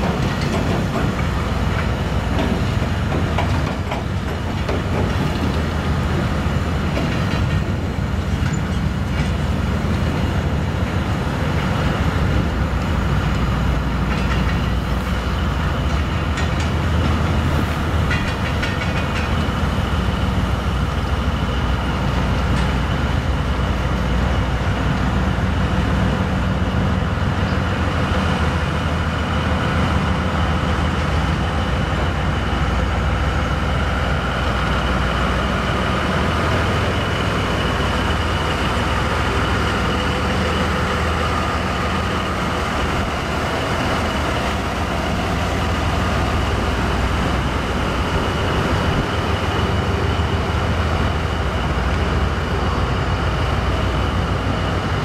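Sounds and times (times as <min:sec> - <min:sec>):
diesel engine running: 0:00.0 - 0:55.0
wheels rumbling on rail: 0:00.0 - 0:55.0.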